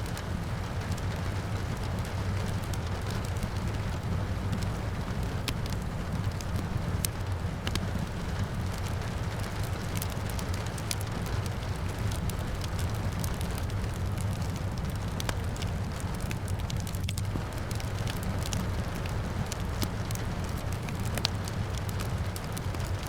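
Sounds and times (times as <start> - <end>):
low rumble of fire: 0.0 - 23.0
rain falling: 0.0 - 23.0
wood fire crackling and popping: 0.0 - 23.0.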